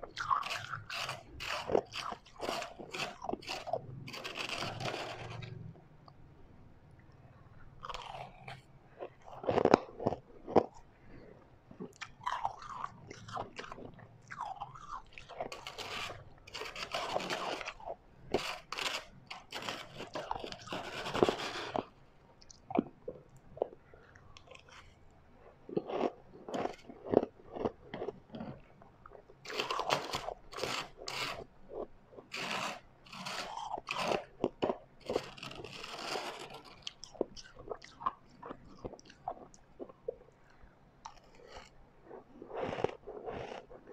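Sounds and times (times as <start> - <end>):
ice being chewed: 0.0 - 6.2, 7.7 - 43.9.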